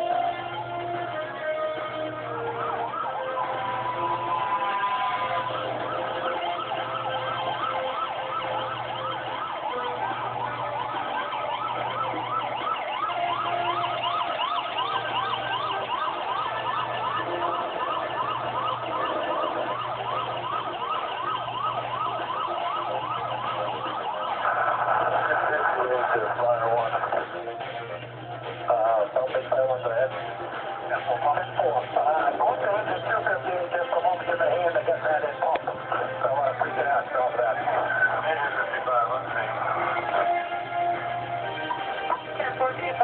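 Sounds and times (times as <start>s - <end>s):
fire engine sirens: 0.0s - 43.0s.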